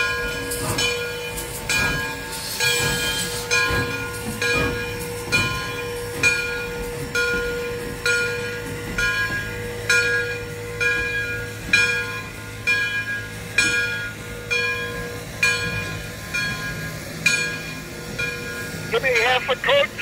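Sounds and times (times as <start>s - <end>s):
locomotive bell ringing: 0.0s - 20.0s
low rumble of moving train: 0.0s - 20.0s.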